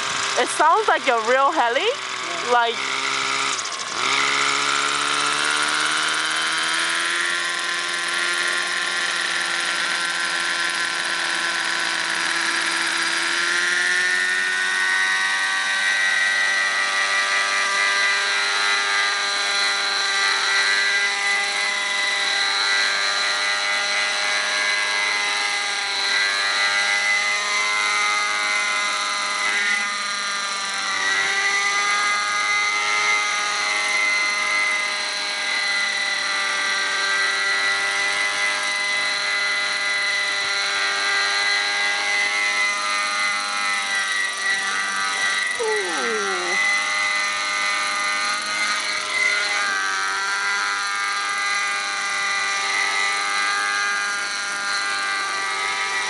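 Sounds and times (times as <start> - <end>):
rc helicopter engine and rotor: 0.0 - 56.0.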